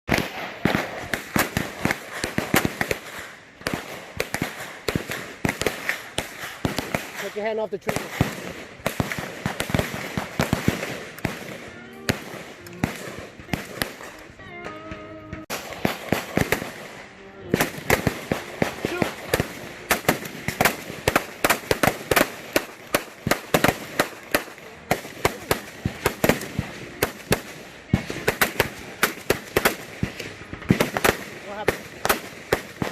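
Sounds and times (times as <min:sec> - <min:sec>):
gunshots: 0:00.1 - 0:14.3, 0:15.4 - 0:32.9.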